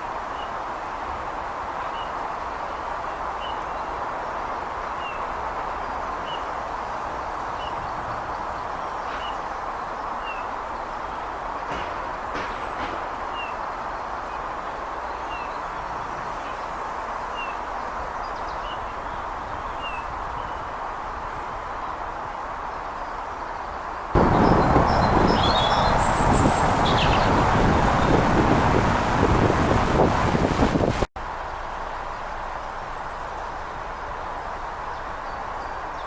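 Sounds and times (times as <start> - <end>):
distant traffic noise: 0.0 - 36.0.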